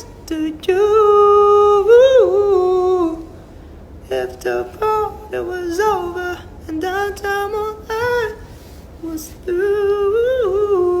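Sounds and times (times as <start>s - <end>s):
person singing slow melody: 0.0s - 3.4s, 4.1s - 11.0s.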